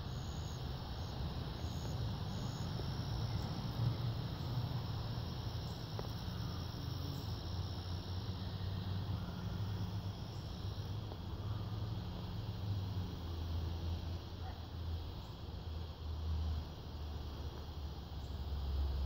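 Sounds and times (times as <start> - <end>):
continuous low hum: 0.0 - 19.0
high-pitched insect chorus: 0.0 - 19.0.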